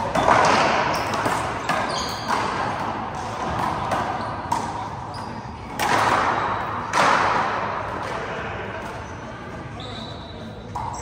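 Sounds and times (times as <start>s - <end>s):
sneaker squeaks: 0.0s - 7.1s, 8.8s - 11.0s.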